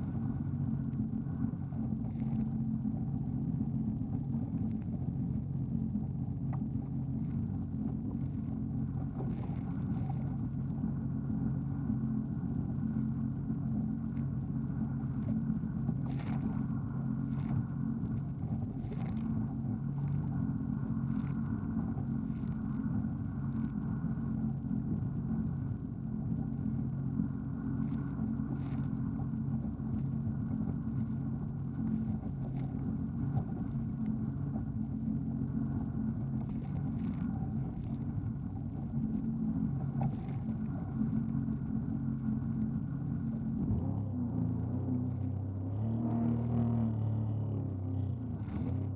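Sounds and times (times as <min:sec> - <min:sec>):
jet ski engine drone: 0:00.0 - 0:48.9.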